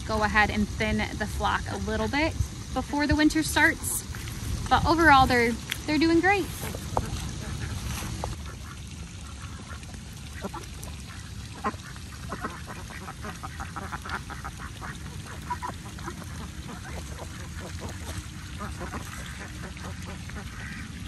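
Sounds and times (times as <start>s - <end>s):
steady low rumble: 0.0s - 21.0s
ducks quacking: 0.2s - 21.0s.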